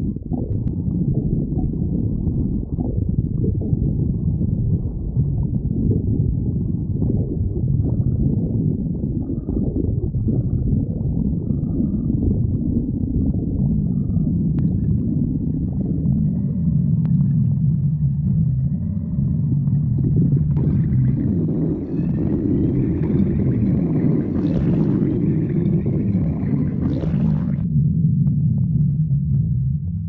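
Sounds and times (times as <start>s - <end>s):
stomach growling: 0.0s - 30.0s.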